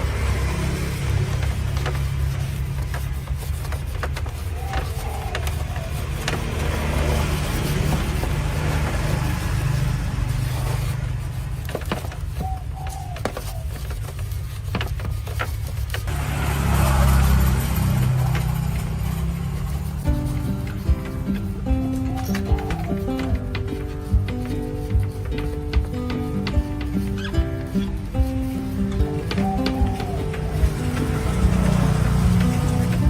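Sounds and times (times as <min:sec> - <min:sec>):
machine rumbling: 0:00.0 - 0:33.0.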